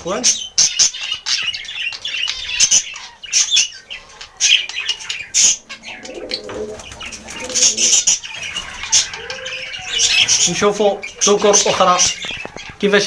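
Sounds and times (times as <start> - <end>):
budgerigars chirping and warbling: 0.0 - 13.0.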